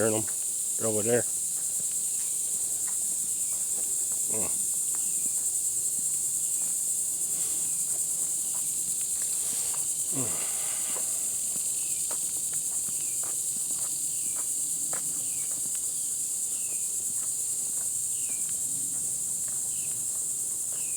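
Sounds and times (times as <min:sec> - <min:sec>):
footsteps crunching on trail: 0:00.0 - 0:20.9
high-pitched insect chorus: 0:00.0 - 0:20.9.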